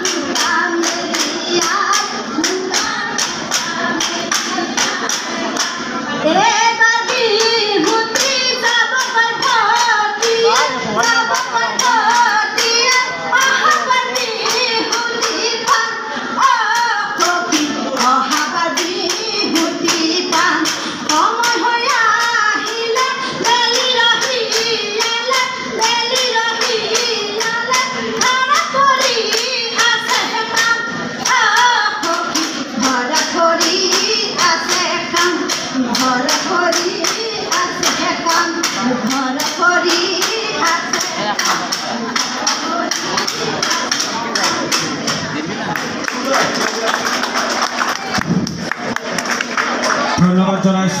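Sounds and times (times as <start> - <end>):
women singing in chorus: 0.0 - 44.9.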